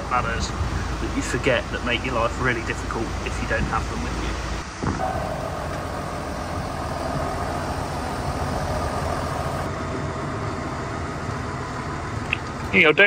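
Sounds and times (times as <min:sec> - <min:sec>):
faint hum: 0:00.0 - 0:12.6
vehicle engine and road noise: 0:00.0 - 0:13.0.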